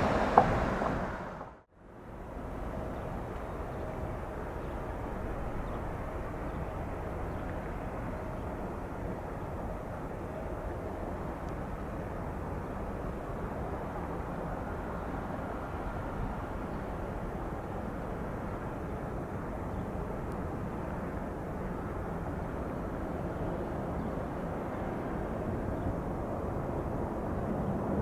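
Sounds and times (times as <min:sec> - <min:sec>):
distant jet engine noise: 0:00.0 - 0:28.0.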